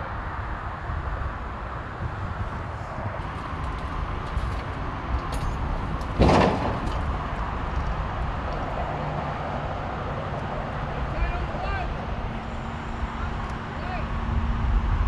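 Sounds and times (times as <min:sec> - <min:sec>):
vehicles rumbling: 0:00.0 - 0:15.0.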